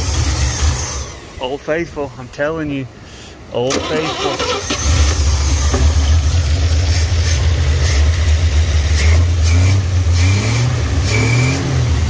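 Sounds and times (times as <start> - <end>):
truck engine running: 0.0 - 2.2, 3.7 - 12.0.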